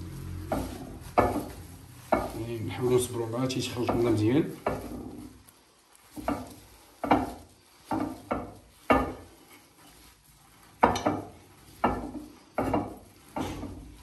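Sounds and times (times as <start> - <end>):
shredded vegetables rustling: 0.0 - 14.0.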